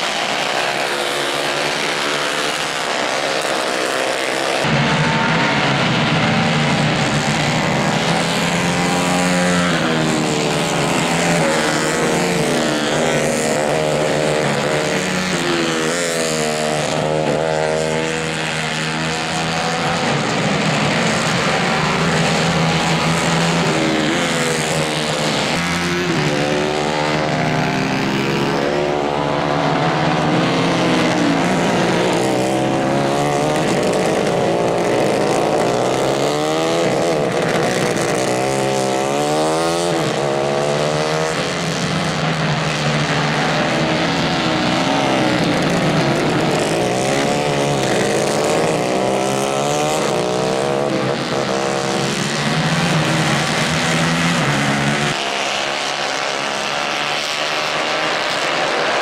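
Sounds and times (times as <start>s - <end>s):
racing kart engines revving: 0.0s - 59.0s.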